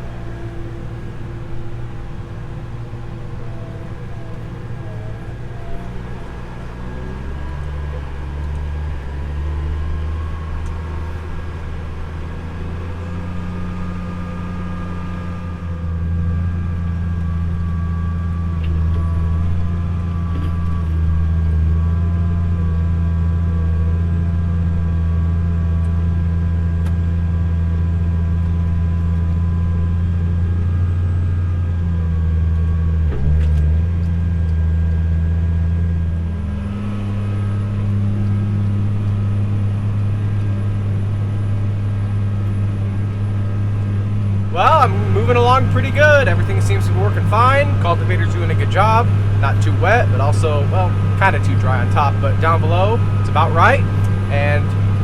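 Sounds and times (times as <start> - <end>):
tractor diesel engine droning: 0.0 - 55.0.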